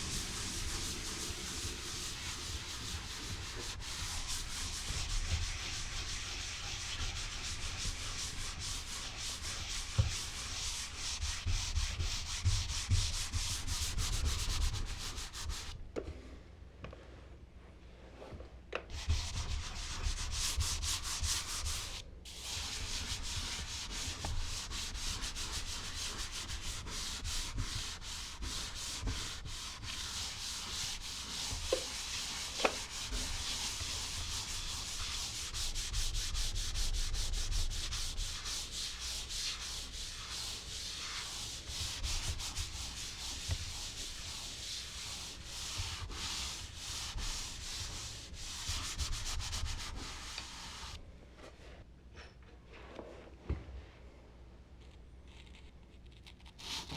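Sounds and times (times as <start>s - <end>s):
charcoal scratching on paper: 0.3s - 15.7s, 18.9s - 51.0s, 54.8s - 56.9s.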